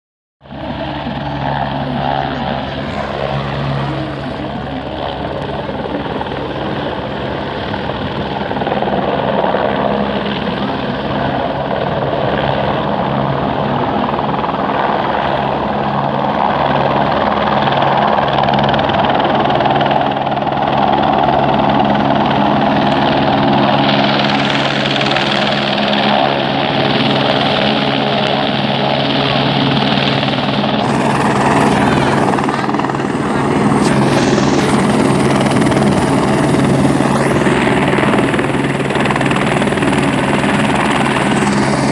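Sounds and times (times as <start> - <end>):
helicopter rotor and turbine: 0.4 - 41.9.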